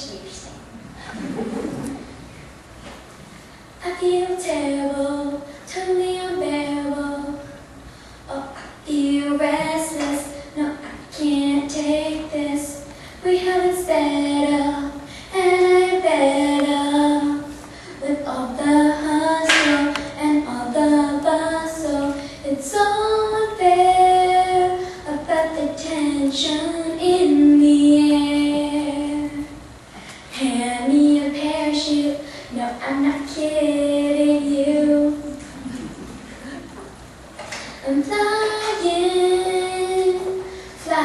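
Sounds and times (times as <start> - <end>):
girl singing: 3.8 - 29.7, 30.3 - 35.7, 37.6 - 41.0.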